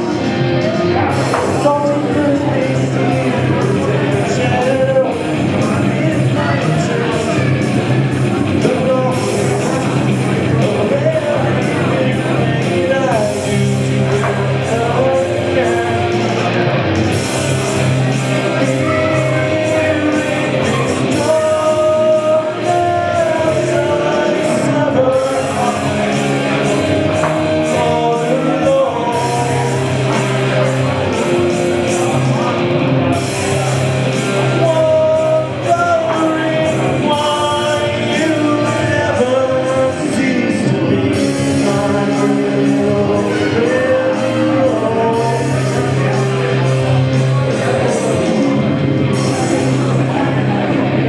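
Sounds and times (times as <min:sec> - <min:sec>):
live rock music with singer: 0:00.0 - 0:51.0.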